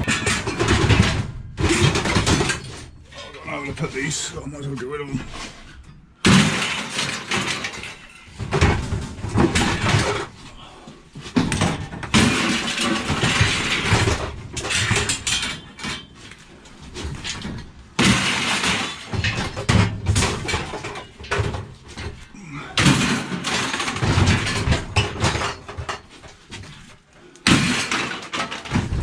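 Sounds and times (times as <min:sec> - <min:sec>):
scrap metal clattering crashes: 0:00.0 - 0:04.3, 0:05.2 - 0:10.6, 0:11.3 - 0:29.0.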